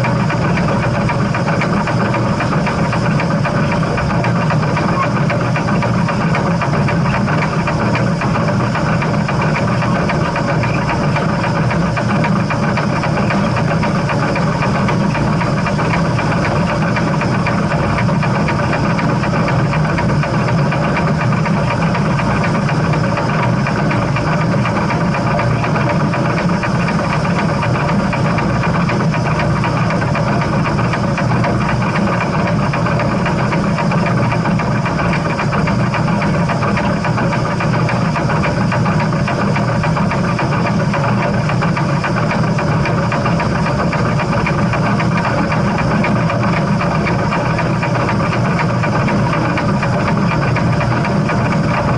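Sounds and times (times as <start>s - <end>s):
steam train running: 0.0s - 51.9s.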